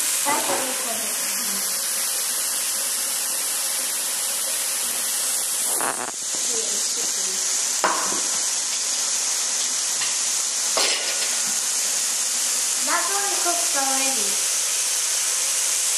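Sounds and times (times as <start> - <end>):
food sizzling on a grill: 0.0 - 15.9.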